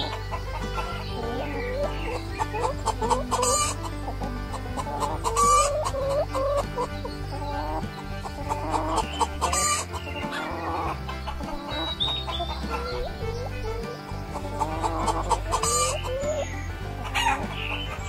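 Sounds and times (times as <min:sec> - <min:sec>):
hen clucking: 0:00.0 - 0:18.0.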